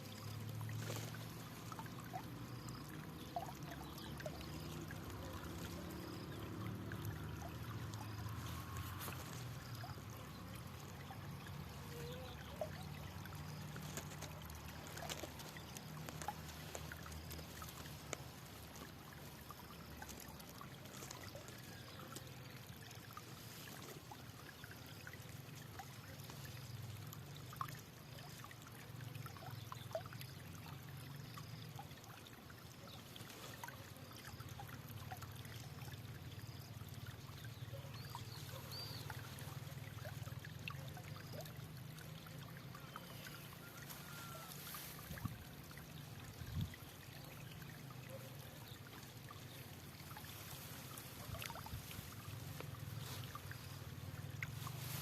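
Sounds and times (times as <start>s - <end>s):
small ticks and splashes: 0.0s - 55.0s
water trickling: 0.0s - 55.0s.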